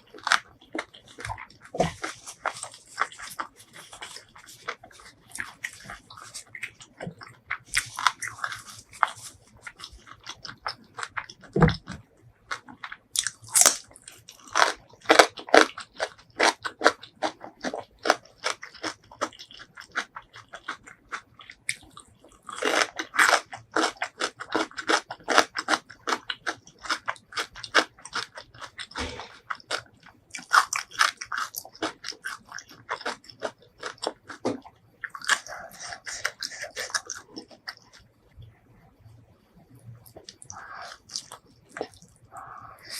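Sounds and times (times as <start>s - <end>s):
crunchy bites and chewing: 0.0s - 38.0s, 39.9s - 42.9s.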